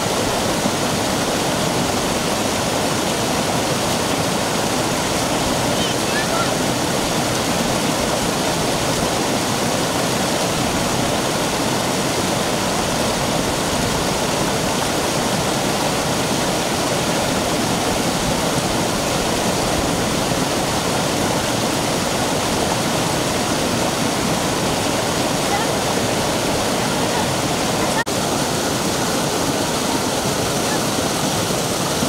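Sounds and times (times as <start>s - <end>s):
stream rushing over rock: 0.0s - 32.0s.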